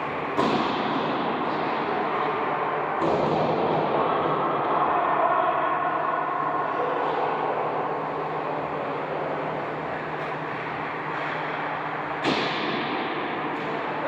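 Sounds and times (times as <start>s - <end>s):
ice rink game noise: 0.0s - 14.0s.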